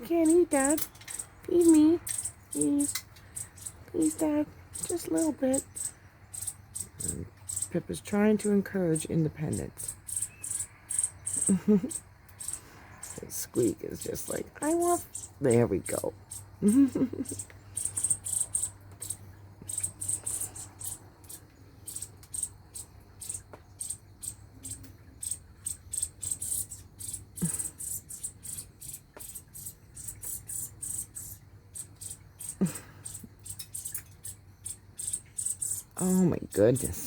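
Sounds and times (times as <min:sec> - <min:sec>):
fledgling bird begging chirps: 0:00.0 - 0:37.0.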